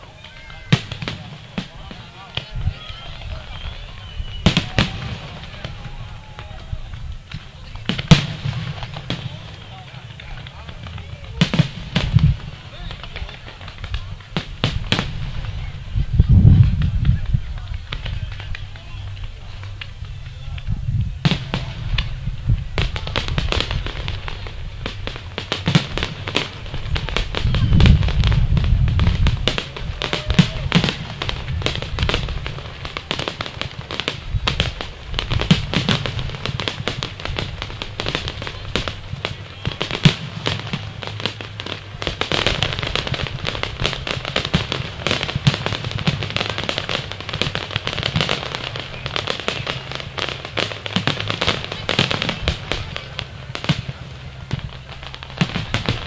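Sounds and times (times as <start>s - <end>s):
fireworks bursting and crackling: 0.0s - 56.0s
heavy low firework boom: 0.7s - 56.0s.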